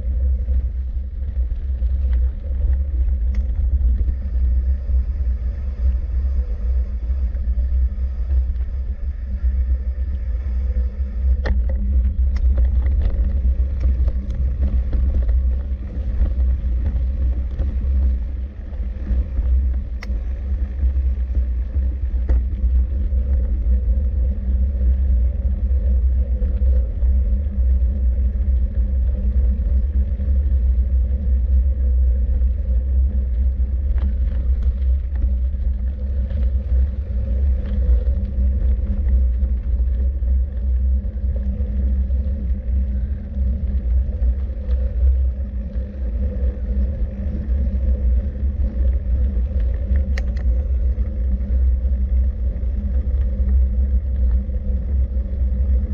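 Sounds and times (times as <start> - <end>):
steady low rumble: 0.0 - 55.9.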